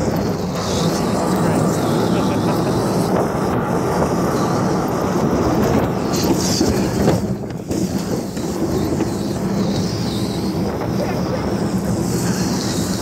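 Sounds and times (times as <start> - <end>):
truck engine driving: 0.0 - 13.0.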